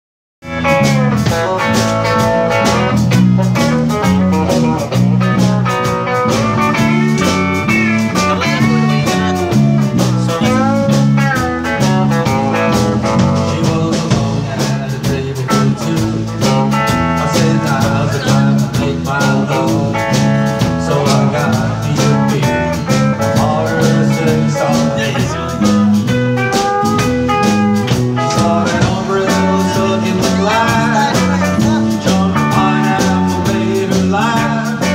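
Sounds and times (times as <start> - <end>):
drum kit: 0.4 - 34.9
electric bass: 0.4 - 34.9
electric guitar: 0.4 - 34.9
man singing: 0.5 - 5.0, 6.2 - 34.9
acoustic guitar: 0.5 - 34.9.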